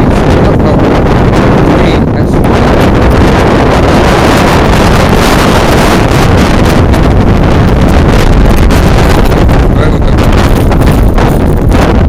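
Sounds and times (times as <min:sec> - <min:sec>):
strong gusting wind on microphone: 0:00.0 - 0:12.0.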